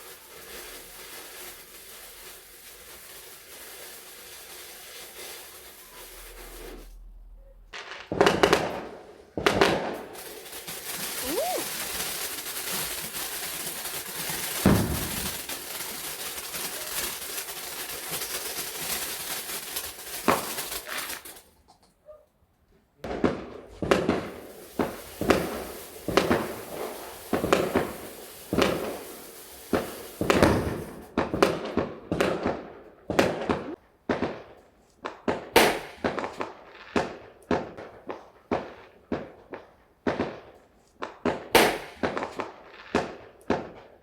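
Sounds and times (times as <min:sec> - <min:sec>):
fireworks bangs: 0:00.0 - 0:21.4, 0:23.0 - 0:44.0
fireworks crackling: 0:00.0 - 0:21.7, 0:23.0 - 0:44.0.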